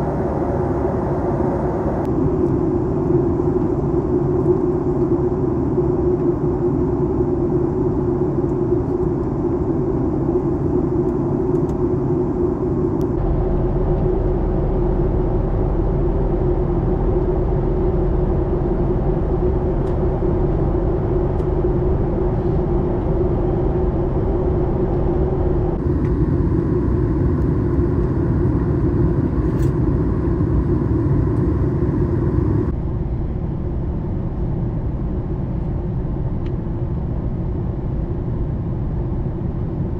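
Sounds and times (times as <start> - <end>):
airplane cabin jet engine rumble: 0.0 - 39.9.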